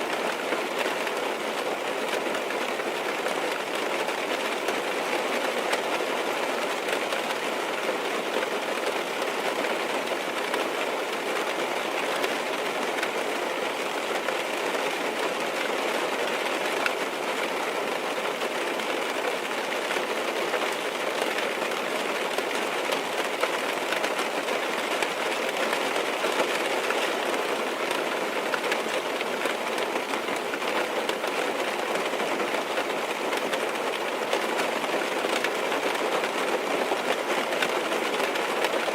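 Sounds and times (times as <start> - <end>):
rain pattering on car roof: 0.0 - 38.9.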